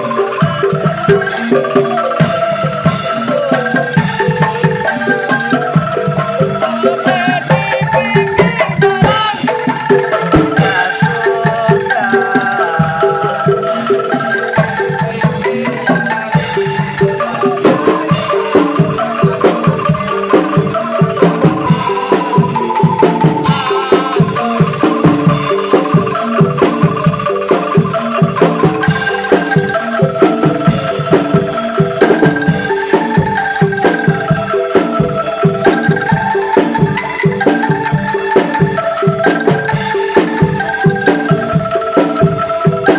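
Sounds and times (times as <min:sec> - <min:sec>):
bamboo angklung melody: 0:00.0 - 0:42.9
low percussive beat: 0:00.0 - 0:42.9.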